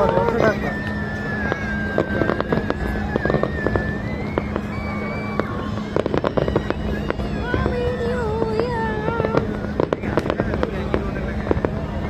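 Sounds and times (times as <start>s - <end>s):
fireworks crackling and popping: 0.0s - 12.0s
high steady whistle: 0.0s - 12.0s.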